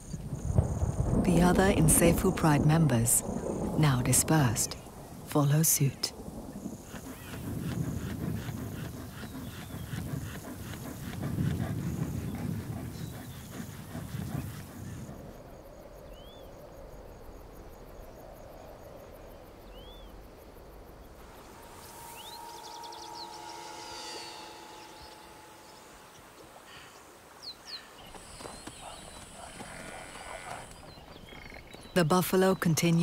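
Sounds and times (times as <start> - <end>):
insects buzzing and ticking: 0.0 - 33.0
high steady insect buzz: 4.4 - 32.0.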